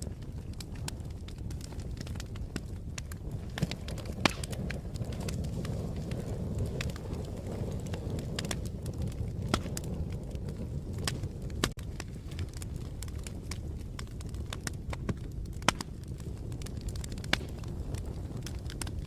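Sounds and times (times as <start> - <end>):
fire crackling and popping: 0.0 - 19.0
low rumble of burning: 0.0 - 19.0.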